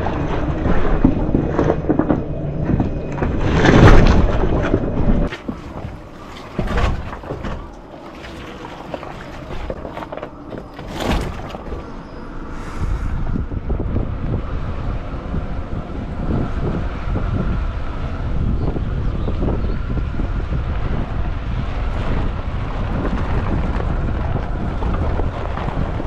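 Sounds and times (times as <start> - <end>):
tyre and suspension rumbling: 0.0 - 26.0
wind buffeting microphone: 0.0 - 26.0.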